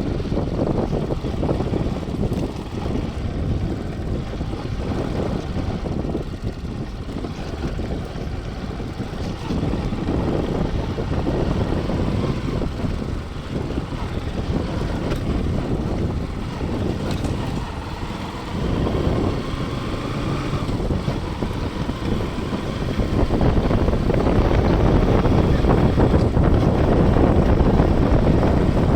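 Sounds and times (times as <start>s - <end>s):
motorcycle engine running: 0.0s - 28.9s
wind rushing over microphone: 0.0s - 28.9s.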